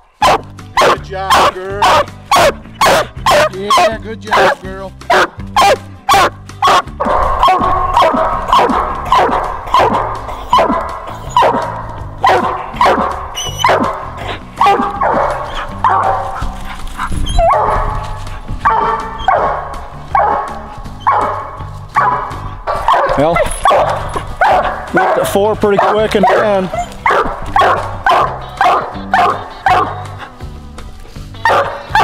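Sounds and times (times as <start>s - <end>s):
dog barking: 0.2s - 30.2s, 31.4s - 32.0s.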